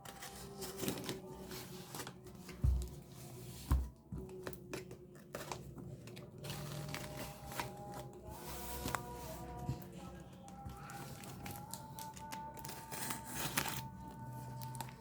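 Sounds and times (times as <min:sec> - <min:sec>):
packaging clicks and rustling: 0:00.0 - 0:02.9, 0:04.2 - 0:15.0.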